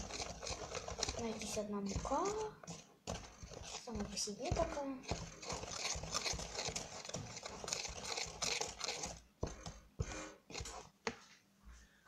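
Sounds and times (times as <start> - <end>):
metal utensil scraping plastic bowl: 0.0 - 10.9.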